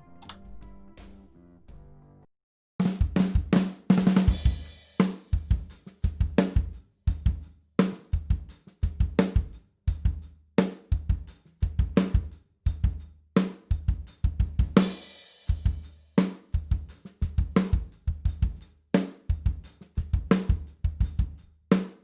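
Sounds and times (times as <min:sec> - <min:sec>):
drum kit playing a beat: 0:02.8 - 0:22.0.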